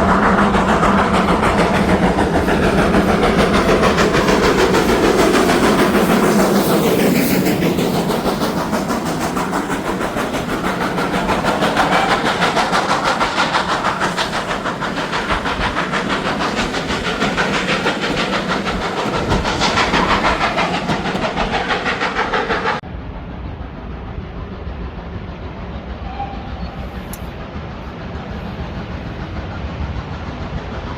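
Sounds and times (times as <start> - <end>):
train running past: 0.0 - 30.9.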